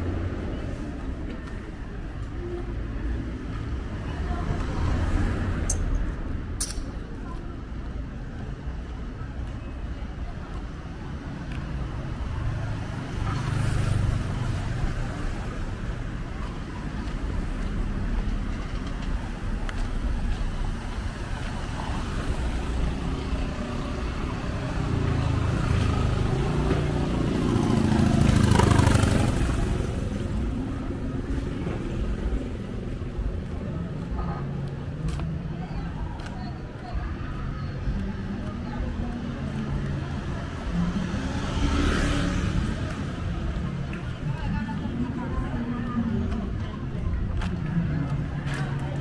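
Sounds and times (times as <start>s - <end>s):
low traffic rumble: 0.0s - 49.0s
passing vehicles: 0.0s - 49.0s.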